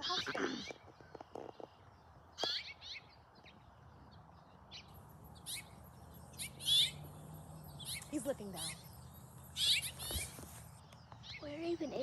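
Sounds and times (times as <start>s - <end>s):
finch chirps: 0.0s - 12.0s.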